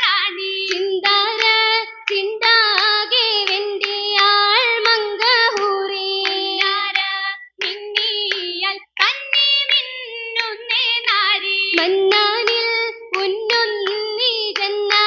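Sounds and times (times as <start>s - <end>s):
girls singing: 0.0s - 15.0s
hand claps: 0.0s - 15.0s.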